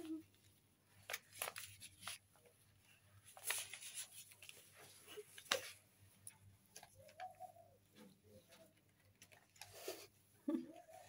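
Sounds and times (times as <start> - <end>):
kittens playing on carpet: 0.0 - 11.0.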